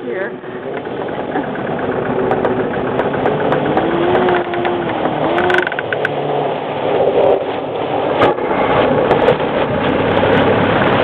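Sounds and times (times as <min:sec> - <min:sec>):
outboard boat engines: 0:00.0 - 0:11.0
steady rushing noise: 0:00.0 - 0:11.0.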